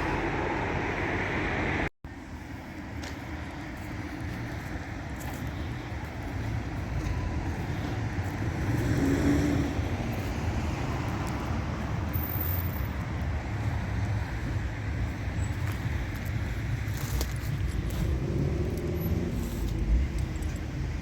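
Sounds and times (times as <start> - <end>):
vehicle low rumble: 0.0 - 21.0.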